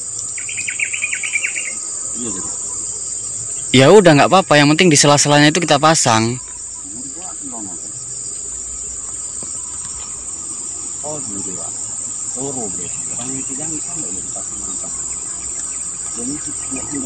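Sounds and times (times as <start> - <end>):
insects shrilling: 0.0 - 17.0.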